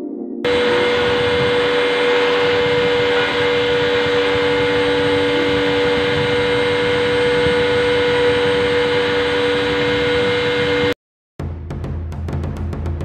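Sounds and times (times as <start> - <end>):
rotary tool whining: 0.5 - 11.0
router bit cutting wood: 0.5 - 11.0.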